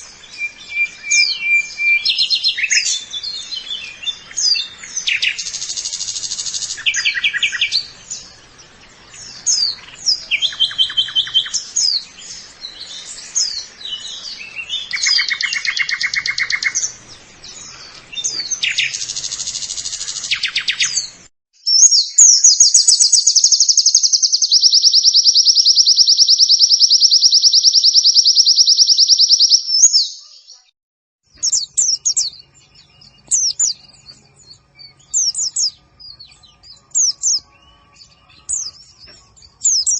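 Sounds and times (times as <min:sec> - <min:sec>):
very fast bird trill: 0:00.0 - 0:30.5, 0:31.3 - 0:39.9
songbird chirps and trills: 0:00.0 - 0:30.7, 0:31.3 - 0:39.9.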